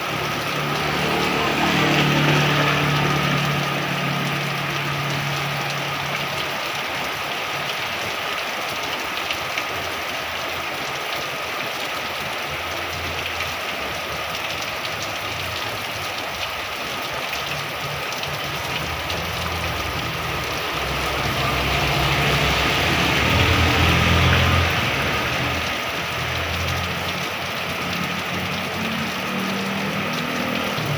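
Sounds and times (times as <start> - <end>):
vehicle engine hum: 0.0 - 8.4, 12.5 - 30.9
heavy rain falling: 0.0 - 30.9.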